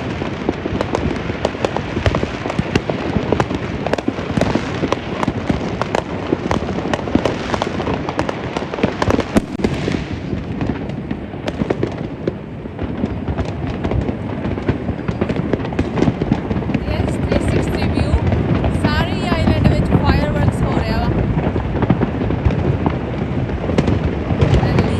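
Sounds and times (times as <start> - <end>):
fireworks crackling and popping: 0.0 - 24.9.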